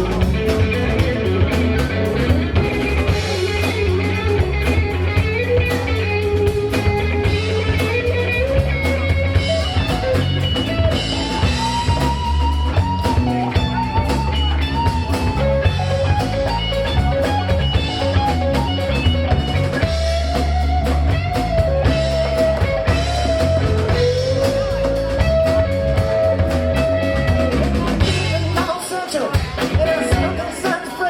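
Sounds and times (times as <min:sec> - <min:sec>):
sliding lead guitar notes: 0:00.0 - 0:30.8
rock band playing: 0:00.0 - 0:31.0.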